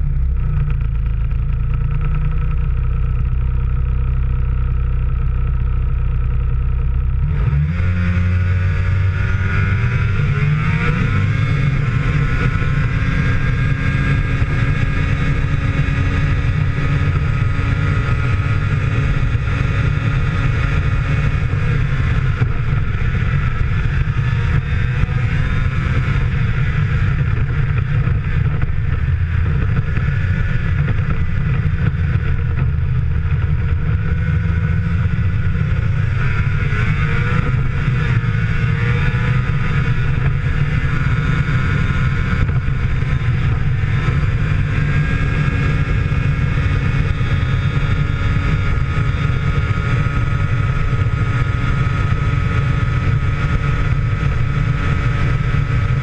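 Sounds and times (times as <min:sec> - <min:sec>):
snowmobile engine revving: 0:07.2 - 0:56.0.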